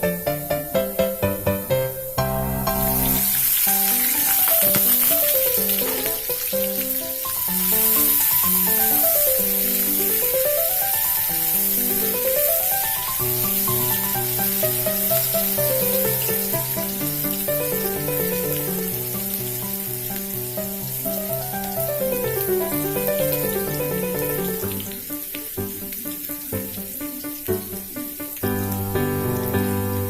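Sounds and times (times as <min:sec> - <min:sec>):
background music: 0:00.0 - 0:19.9, 0:20.5 - 0:30.0
food frying in oil: 0:02.8 - 0:30.0.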